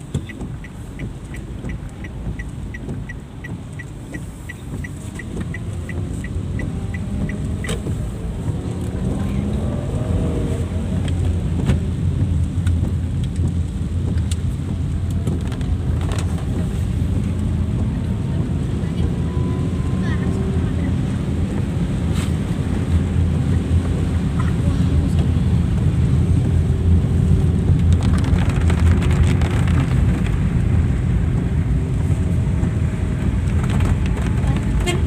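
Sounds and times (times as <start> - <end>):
car engine and tyres: 0.0 - 35.0
heavy rain on car: 0.0 - 35.0
turn signal ticking: 0.0 - 35.0.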